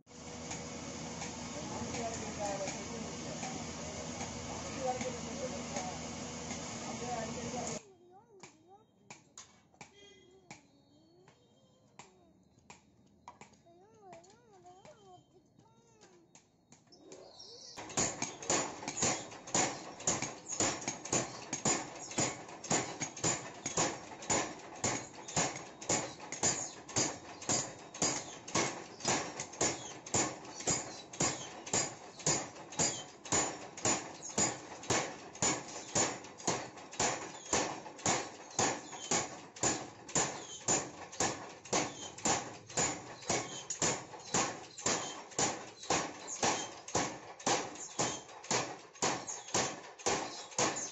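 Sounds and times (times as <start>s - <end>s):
power hammer blows on metal: 0.1s - 7.8s, 17.8s - 50.9s.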